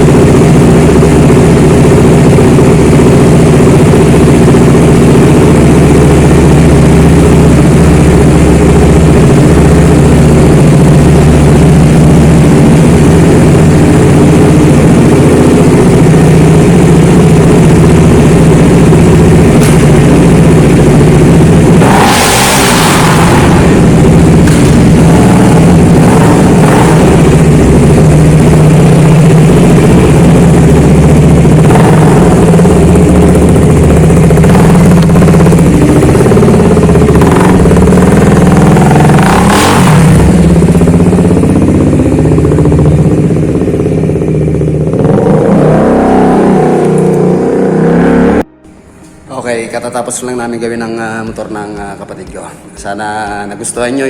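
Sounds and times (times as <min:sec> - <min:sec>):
motorcycle engine idling: 0:00.0 - 0:49.3.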